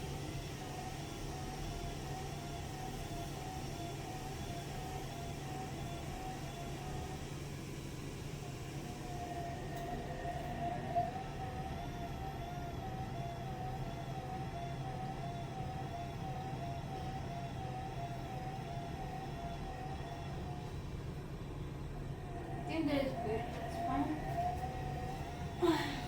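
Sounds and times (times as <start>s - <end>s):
washing machine motor whine: 0.0s - 26.0s.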